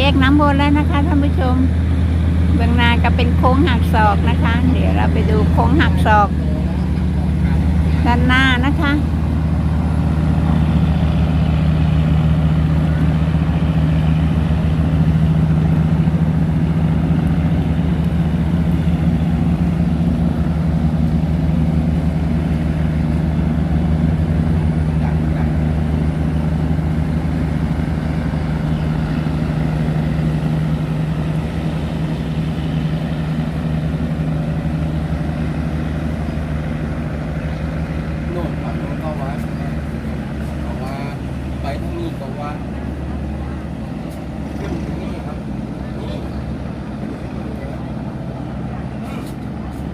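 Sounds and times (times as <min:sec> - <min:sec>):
boat diesel engine droning: 0:00.0 - 0:49.9.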